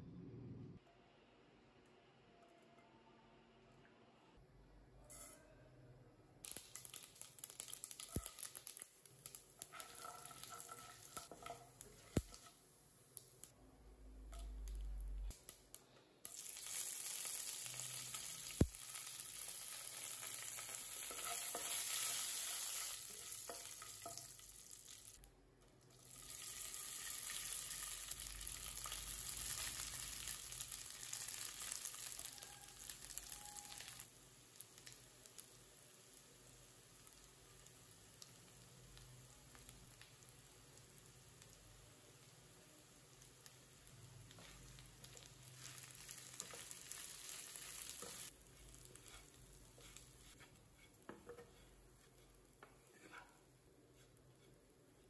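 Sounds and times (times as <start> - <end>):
mustard seeds crackling in oil: 6.4 - 13.6, 14.2 - 55.0
steady sizzle of frying: 6.4 - 55.0.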